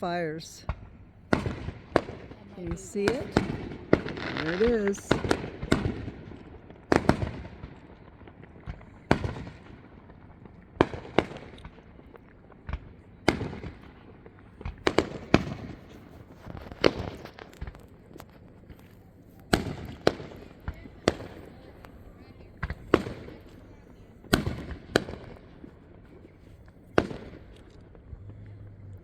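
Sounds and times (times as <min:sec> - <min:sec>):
fireworks bursting with crackle: 0:00.0 - 0:28.7.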